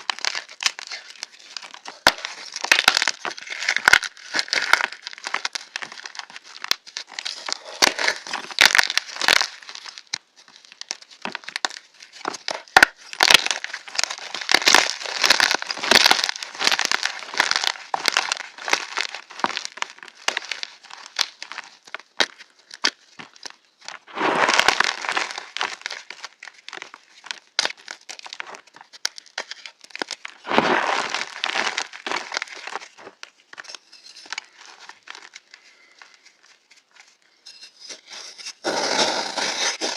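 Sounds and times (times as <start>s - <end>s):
chalk crunching and snapping: 0.0s - 39.9s.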